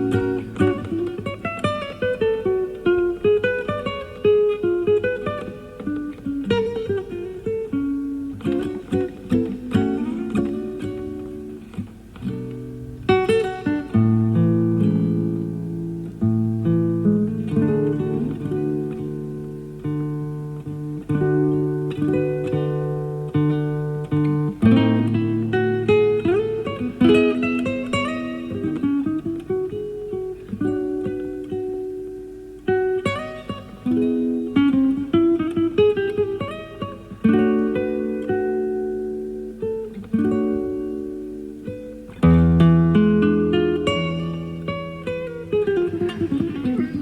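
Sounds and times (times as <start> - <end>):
classical guitar playing: 0.0 - 47.0
tape hiss: 0.0 - 47.0.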